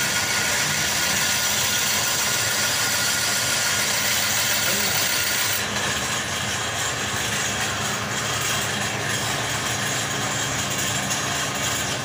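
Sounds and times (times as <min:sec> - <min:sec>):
grinding machine running: 0:00.0 - 0:12.0.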